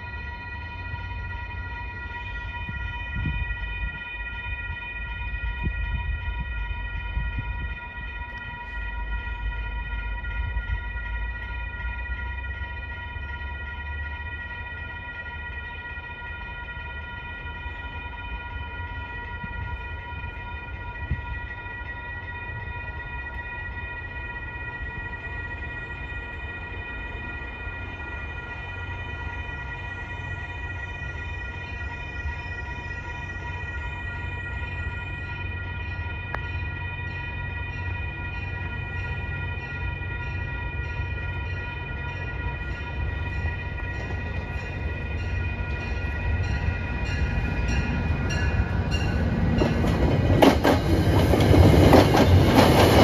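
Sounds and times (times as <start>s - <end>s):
crossing warning bell ringing: 0.0s - 53.0s
distant train rumble: 0.0s - 53.0s.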